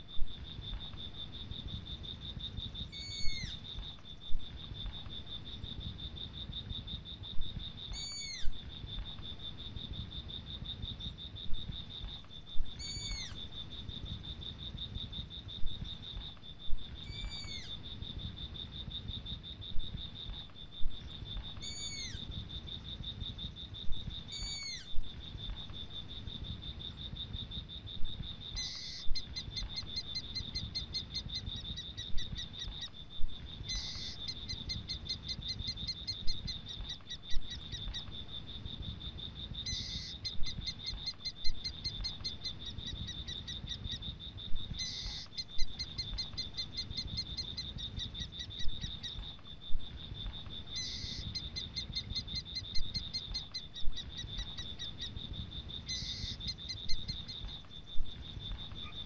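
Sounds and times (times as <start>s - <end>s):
insect drone: 0.0s - 59.0s.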